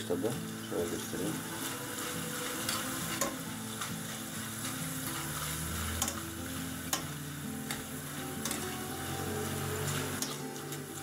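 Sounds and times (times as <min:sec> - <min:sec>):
potato slices sizzling in oil: 0:00.0 - 0:11.0.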